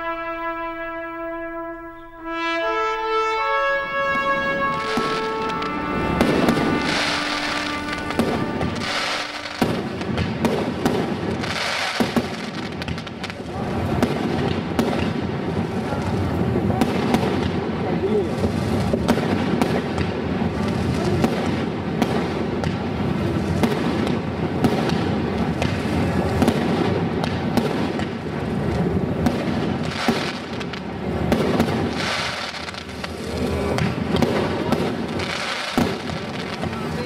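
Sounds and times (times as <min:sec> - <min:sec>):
fireworks popping and banging: 0:04.0 - 0:37.0.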